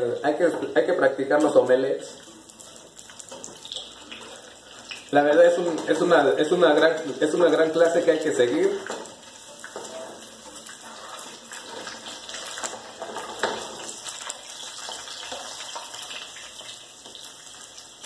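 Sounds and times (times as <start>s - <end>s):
eggs frying in a pan: 0.0s - 18.0s
utensil scraping in a pan: 2.2s - 17.8s.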